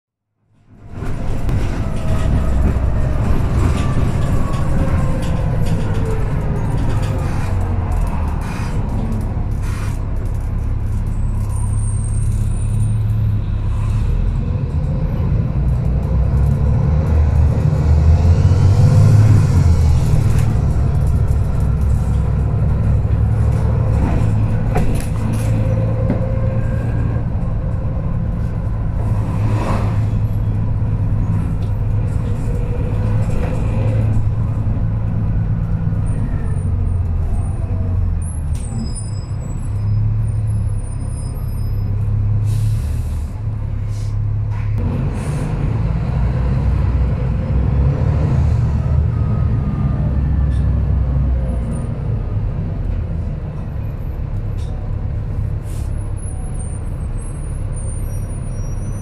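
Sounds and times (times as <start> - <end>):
bus diesel engine drone: 0.4 - 59.0.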